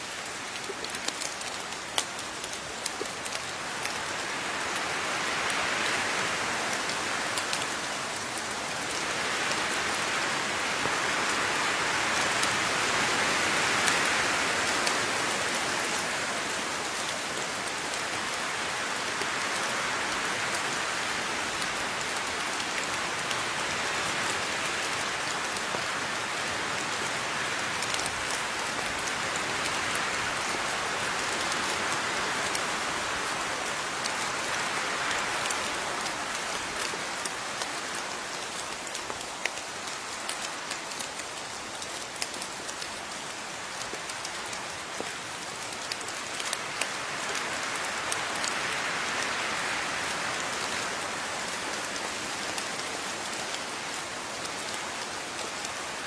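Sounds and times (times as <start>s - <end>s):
rain hiss: 0.0s - 56.0s
raindrops ticking on a surface: 0.0s - 56.0s.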